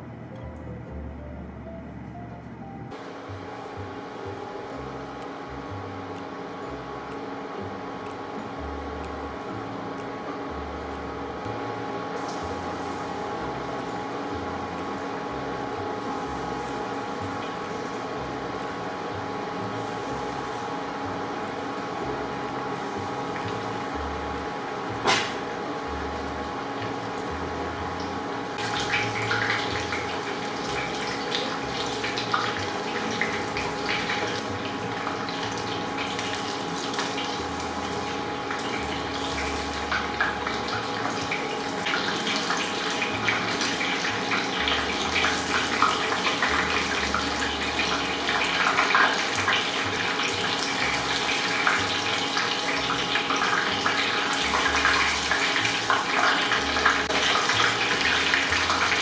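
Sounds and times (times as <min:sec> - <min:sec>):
chicken deep-frying in hot oil: 0:02.9 - 0:59.0.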